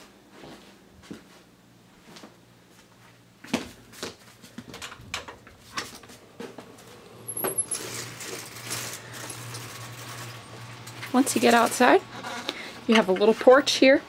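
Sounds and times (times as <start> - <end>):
footsteps walking: 0.0 - 4.8, 5.4 - 13.6.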